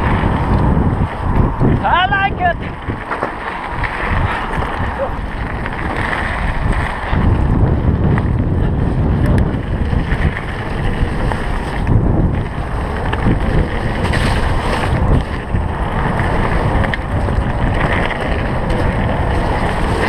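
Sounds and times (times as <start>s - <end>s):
tyres rumbling on dirt: 0.0s - 20.0s
wind buffeting microphone: 0.0s - 20.0s.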